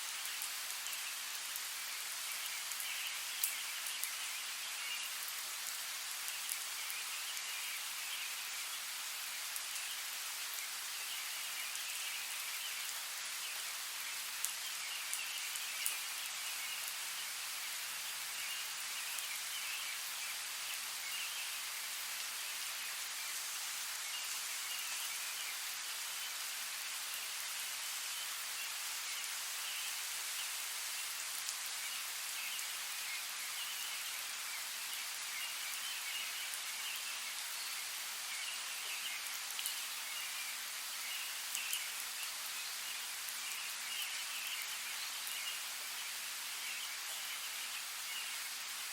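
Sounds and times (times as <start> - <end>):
rain on leaves: 0.0 - 48.9.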